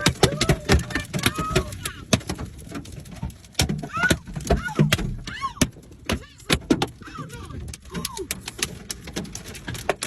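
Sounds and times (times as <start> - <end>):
hailstones banging on car: 0.0 - 10.0.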